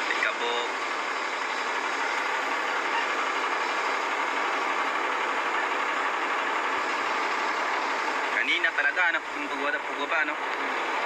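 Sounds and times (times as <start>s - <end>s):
engine noise inside vehicle: 0.0s - 11.0s.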